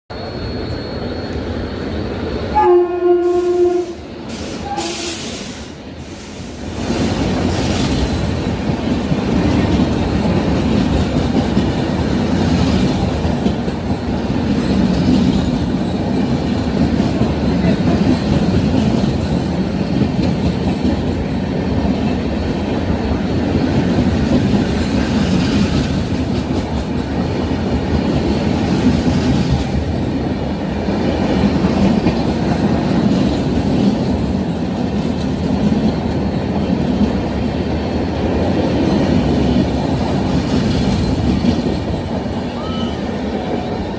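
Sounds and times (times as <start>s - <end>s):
train rumbling on rails: 0.1s - 43.9s.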